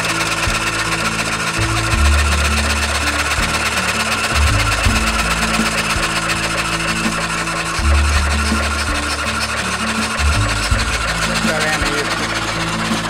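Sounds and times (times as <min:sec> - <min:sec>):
background music with low notes: 0:00.0 - 0:13.0
steady rasping noise: 0:00.0 - 0:13.0.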